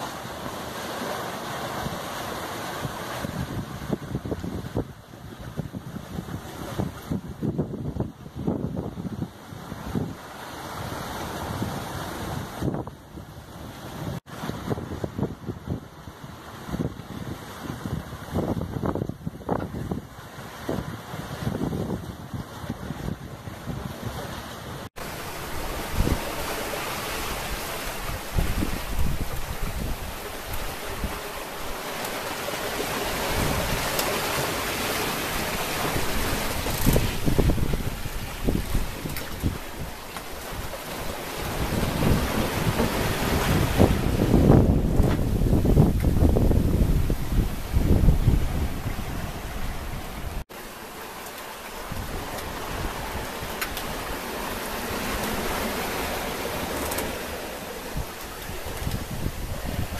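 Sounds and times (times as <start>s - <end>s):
sea water rushing along a hull: 0.0s - 59.9s
wind buffeting microphone: 2.7s - 50.4s, 51.7s - 59.9s.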